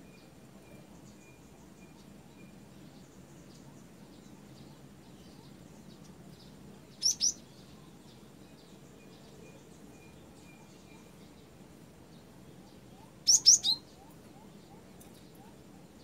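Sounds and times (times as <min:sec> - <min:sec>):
faint small bird chirps: 0:00.0 - 0:16.0.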